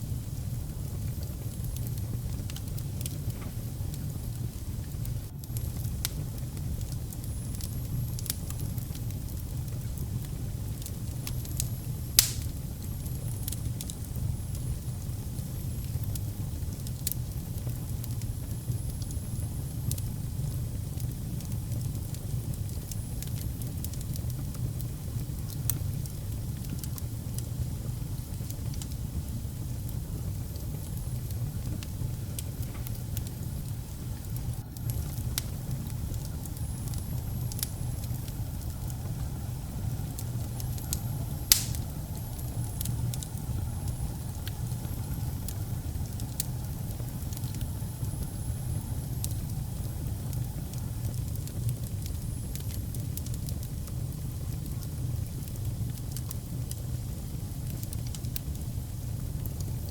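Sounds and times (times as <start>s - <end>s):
fire crackling and popping: 0.0s - 59.9s
fire low rumble: 0.0s - 59.9s.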